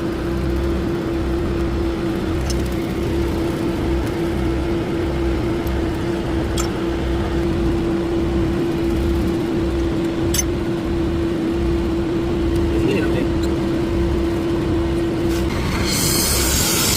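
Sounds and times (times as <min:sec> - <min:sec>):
machine droning: 0:00.0 - 0:16.9.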